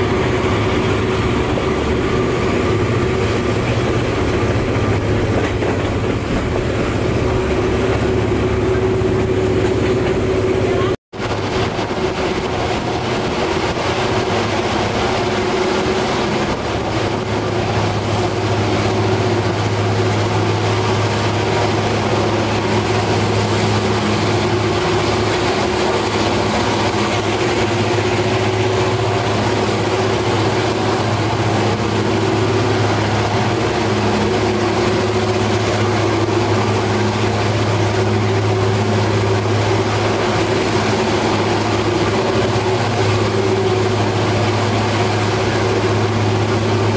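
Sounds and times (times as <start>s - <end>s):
low engine drone: 0.0s - 46.9s
train rumble: 0.0s - 46.9s.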